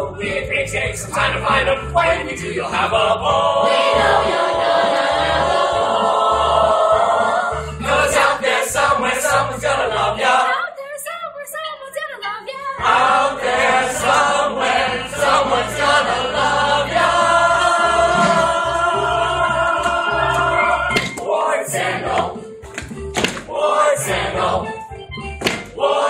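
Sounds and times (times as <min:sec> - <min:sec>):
instrumental accompaniment with bass: 0:00.0 - 0:10.2, 0:12.8 - 0:26.0
group singing a chorus: 0:00.0 - 0:10.6, 0:12.8 - 0:22.6, 0:23.4 - 0:24.8, 0:25.6 - 0:26.0.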